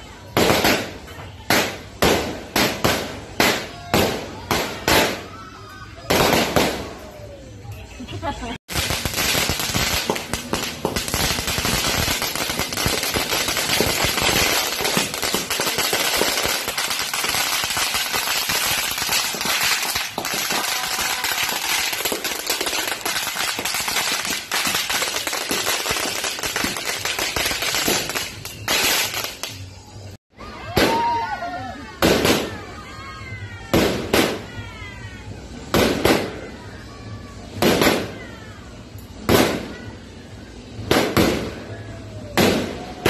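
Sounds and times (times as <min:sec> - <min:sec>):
firecrackers crackling: 0:00.0 - 0:43.0.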